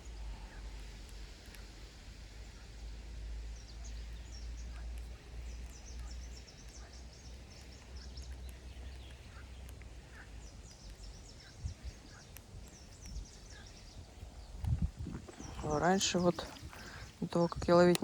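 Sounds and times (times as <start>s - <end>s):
small birds chirping: 0.0s - 18.0s
wind buffeting microphone: 0.0s - 18.0s.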